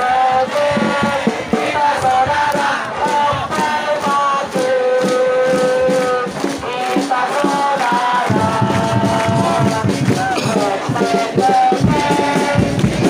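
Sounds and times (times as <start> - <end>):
percussion beats: 0.0 - 13.0
stadium crowd chanting: 0.0 - 13.0.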